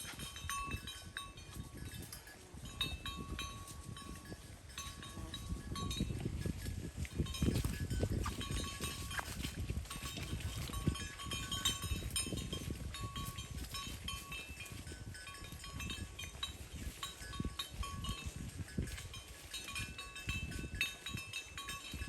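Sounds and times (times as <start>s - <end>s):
cattle bells clanking: 0.0s - 22.0s.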